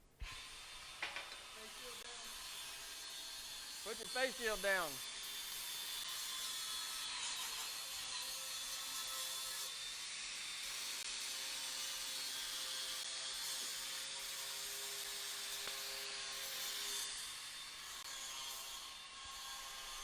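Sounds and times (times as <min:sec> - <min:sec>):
grinder grinding metal: 0:00.3 - 0:20.0.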